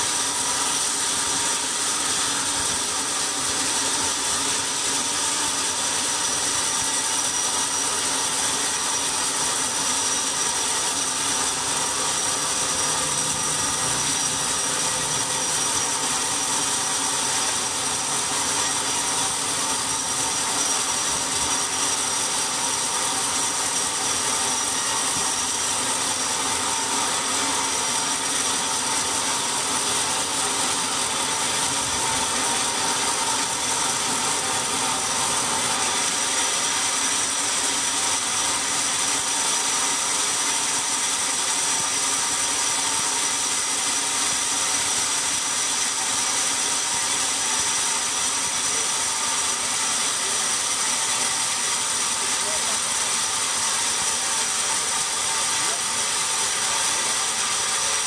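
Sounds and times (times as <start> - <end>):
band saw blade whine: 0.0 - 58.0.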